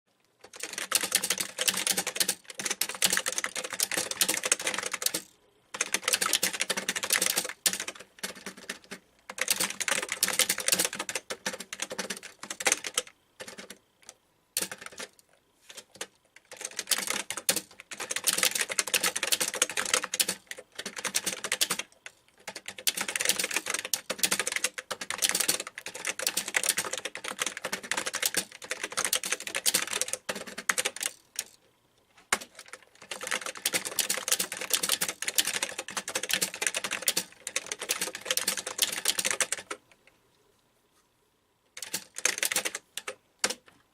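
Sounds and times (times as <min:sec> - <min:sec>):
computer keyboard typing: 0:00.4 - 0:31.6, 0:32.3 - 0:39.9, 0:41.7 - 0:43.8.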